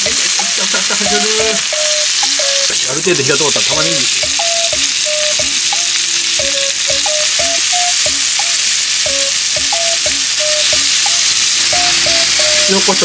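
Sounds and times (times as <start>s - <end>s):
chicken sizzling in frying pan: 0.0s - 13.0s.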